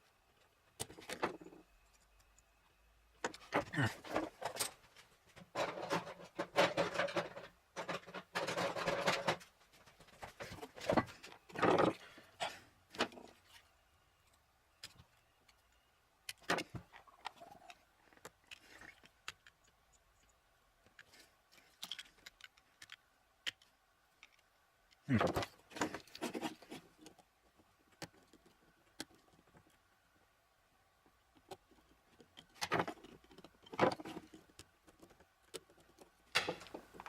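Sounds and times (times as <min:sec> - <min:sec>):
screwdrivers clicking and scraping metal: 0:00.3 - 0:12.2, 0:12.9 - 0:29.9, 0:31.2 - 0:37.0.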